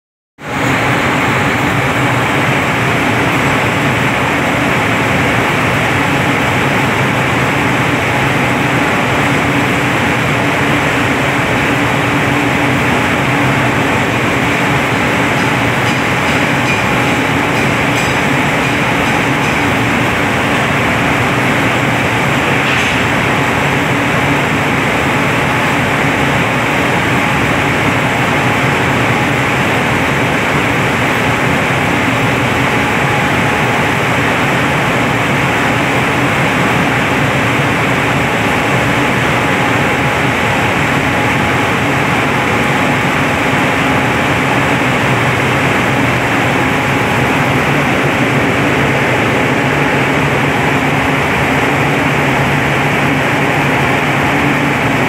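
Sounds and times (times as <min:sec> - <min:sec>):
industrial dryer machine humming: 0:00.4 - 0:55.0.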